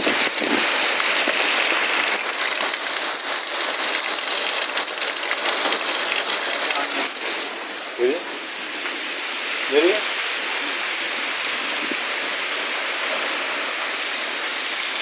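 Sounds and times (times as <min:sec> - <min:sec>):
heavy rain on roofs and ground: 0:00.0 - 0:15.0.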